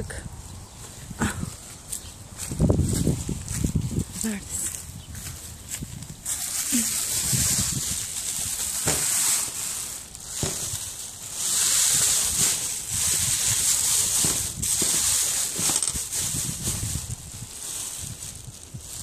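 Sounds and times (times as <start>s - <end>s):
crinkly plastic sheeting rustling: 0.8s - 19.0s.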